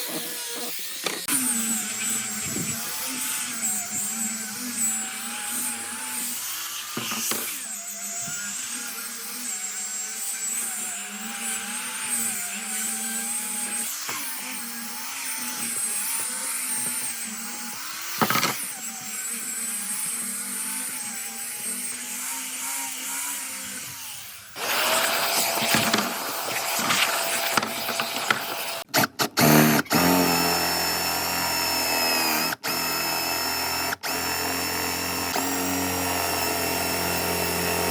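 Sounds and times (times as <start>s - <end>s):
electric power tool whining: 0.0s - 37.9s.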